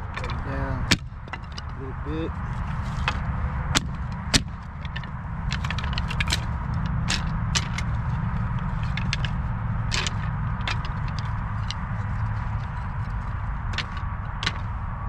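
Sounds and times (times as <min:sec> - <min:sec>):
firewood sticks clacking: 0:00.0 - 0:15.0
steady low rumble: 0:00.0 - 0:15.0.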